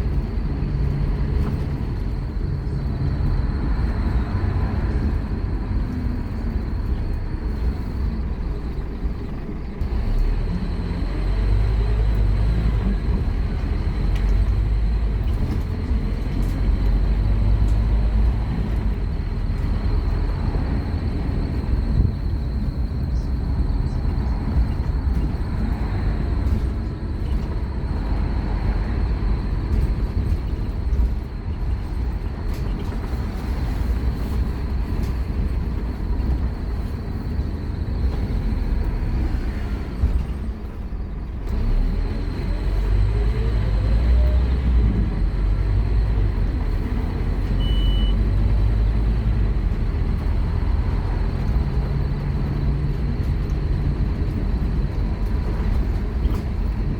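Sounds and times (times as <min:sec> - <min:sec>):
bus diesel engine rumbling: 0:00.0 - 0:56.9.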